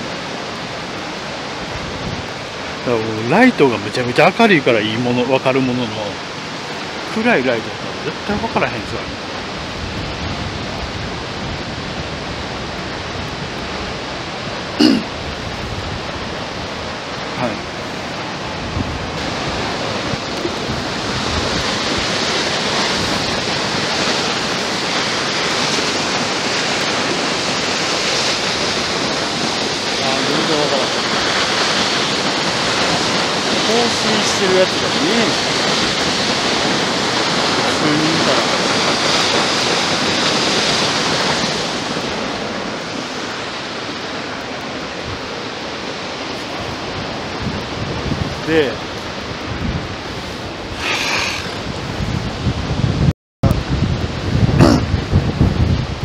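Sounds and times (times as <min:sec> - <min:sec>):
dam water crashing roar: 0:00.0 - 0:56.0.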